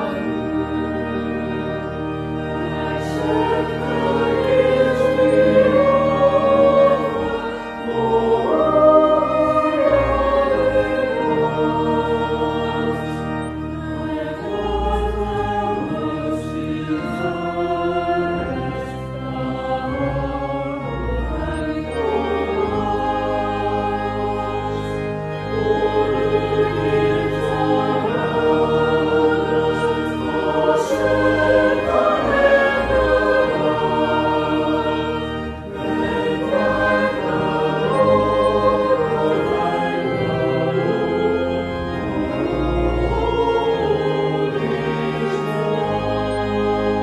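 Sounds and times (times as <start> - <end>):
choir singing: 0.0 - 47.0
organ: 0.0 - 47.0.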